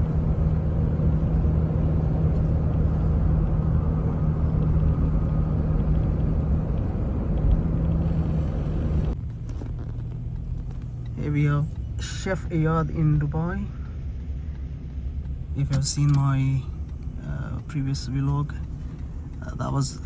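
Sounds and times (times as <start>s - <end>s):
car cabin road rumble: 0.0s - 20.0s
constant hum: 0.0s - 20.0s.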